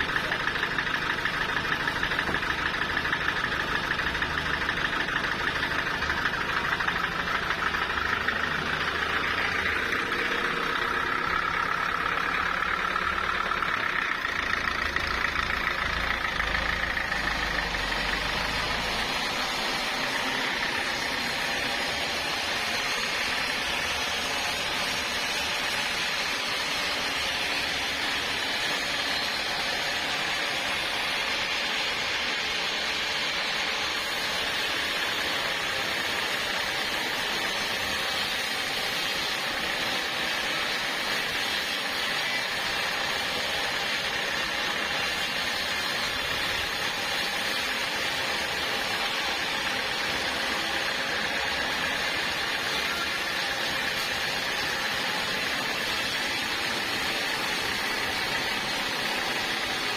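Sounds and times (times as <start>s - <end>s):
sawmill saw cutting timber: 0.0s - 59.9s.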